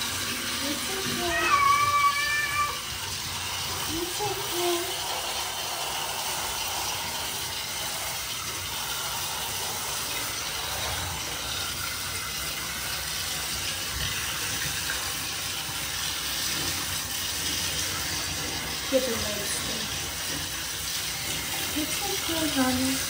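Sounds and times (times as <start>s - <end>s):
shower head spraying water: 0.0s - 23.0s.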